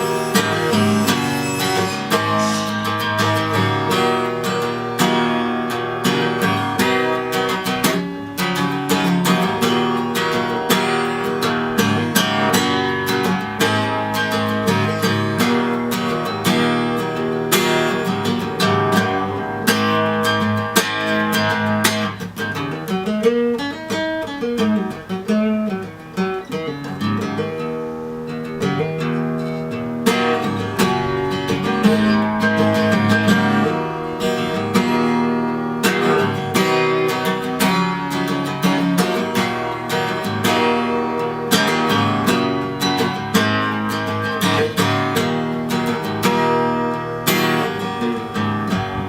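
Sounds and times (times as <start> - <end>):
acoustic guitar strummed and picked: 0.0 - 49.0.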